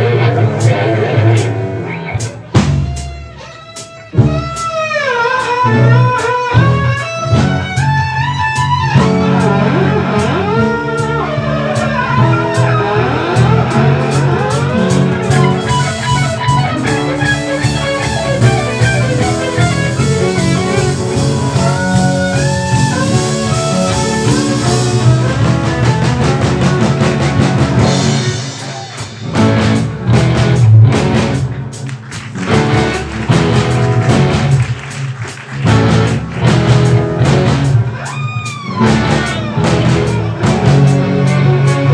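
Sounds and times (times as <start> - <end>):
electric violin: 0.0 - 31.5, 35.6 - 41.9
bass guitar: 0.0 - 41.9
drum kit: 0.0 - 41.9
electric guitar lead lines: 0.0 - 41.9.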